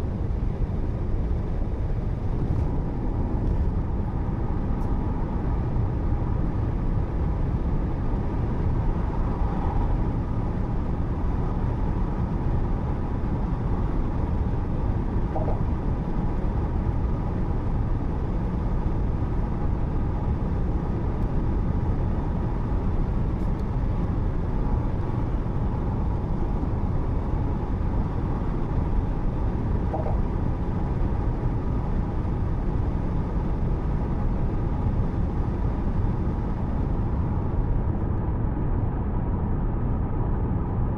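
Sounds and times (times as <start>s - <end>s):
car driving on highway: 0.0s - 40.9s.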